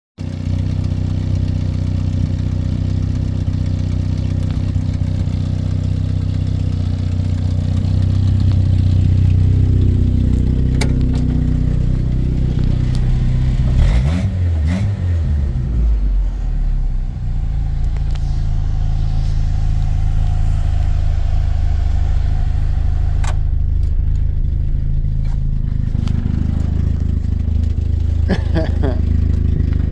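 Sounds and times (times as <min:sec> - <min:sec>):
car engine running with exhaust leak: 0:00.2 - 0:29.9.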